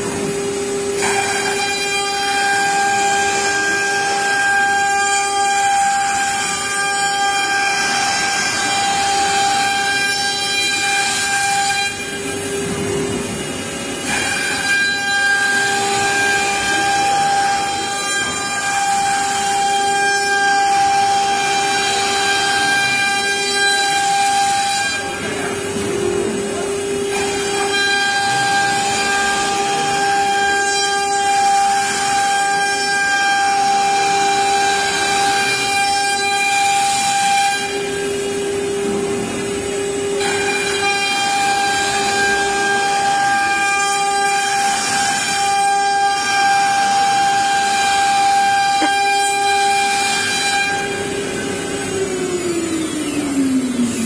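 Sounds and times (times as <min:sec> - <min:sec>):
router spindle high whine: 0:00.0 - 0:54.0
rushing wood cutting noise: 0:00.0 - 0:54.0.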